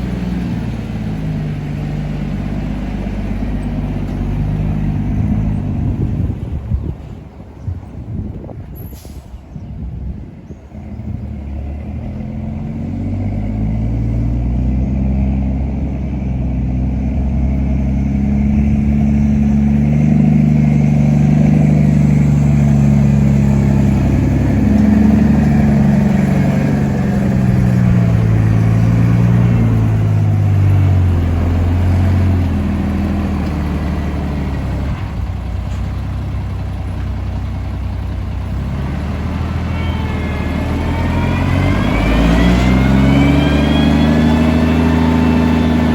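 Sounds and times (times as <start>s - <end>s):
heavy diesel engine under load: 0.0s - 45.9s.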